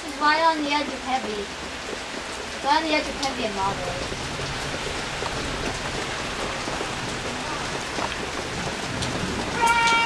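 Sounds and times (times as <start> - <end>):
sharp raindrop hits: 0.0 - 10.0
steady rain: 0.0 - 10.0.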